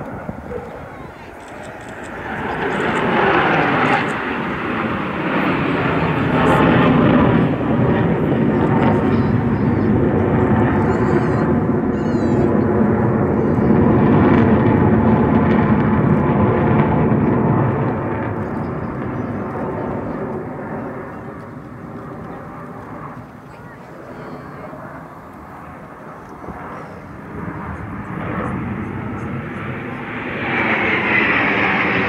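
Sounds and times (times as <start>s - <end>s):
fighter jets roaring overhead: 0.0s - 32.0s.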